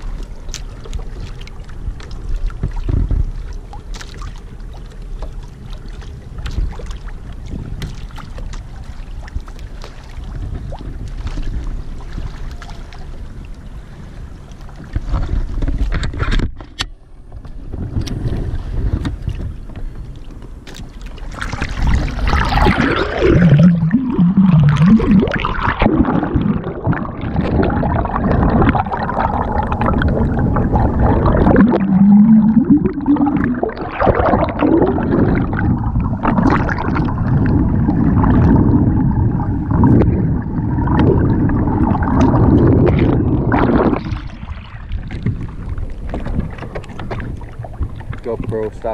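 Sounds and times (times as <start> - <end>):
wind noise: 0.0 - 4.3, 5.8 - 13.4, 14.0 - 48.9
water rushing and gurgling underwater: 0.0 - 48.9.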